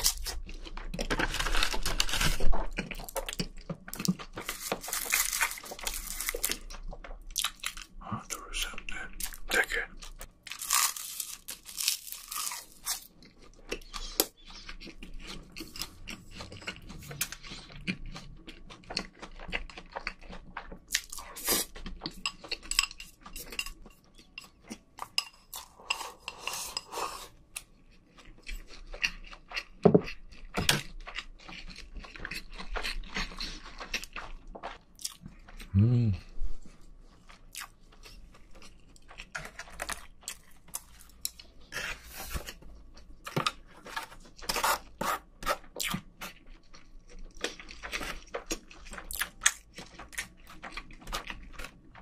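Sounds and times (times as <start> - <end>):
crunchy chewing: 0.0 - 8.0, 8.6 - 52.0.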